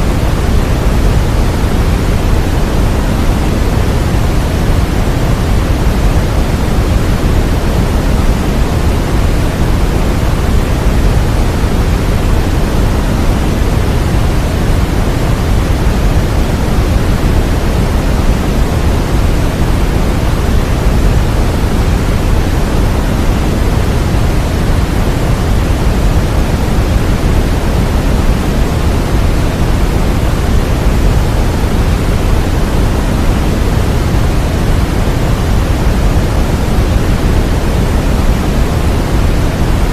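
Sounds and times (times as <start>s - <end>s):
white noise rush: 0.0s - 39.9s.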